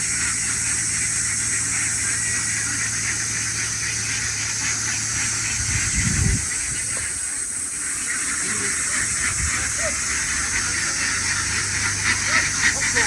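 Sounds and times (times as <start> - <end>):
duck flock chattering: 0.0 - 13.0.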